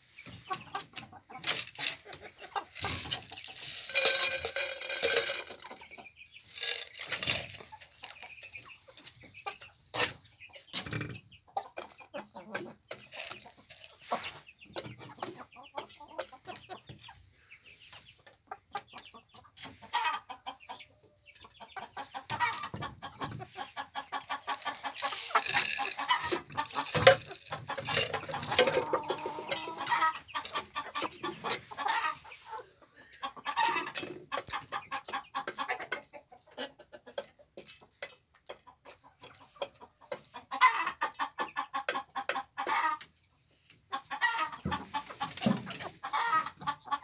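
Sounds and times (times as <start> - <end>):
chickens clucking and calling: 0.0 - 47.0.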